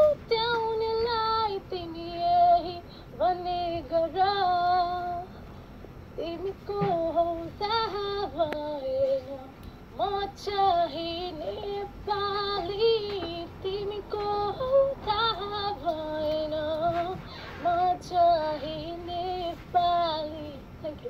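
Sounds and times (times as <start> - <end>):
woman singing through speaker: 0.0 - 5.3, 6.2 - 21.0.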